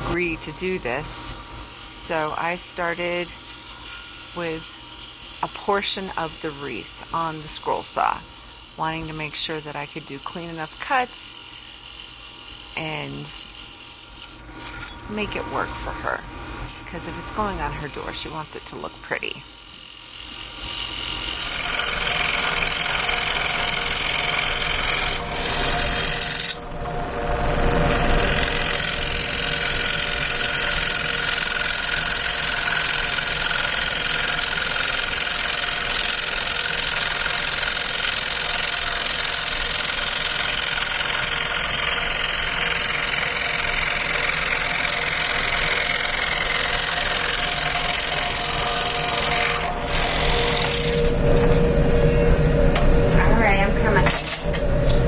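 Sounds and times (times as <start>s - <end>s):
scroll saw cutting wood: 0.0s - 15.5s, 16.6s - 51.1s.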